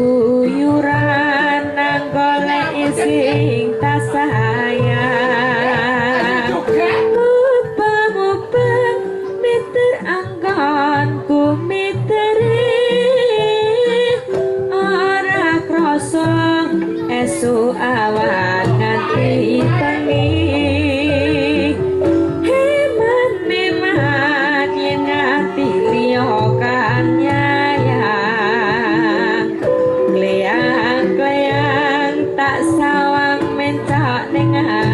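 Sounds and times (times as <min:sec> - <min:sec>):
child singing with vibrato: 0:00.0 - 0:34.9
gamelan ensemble: 0:00.0 - 0:34.9.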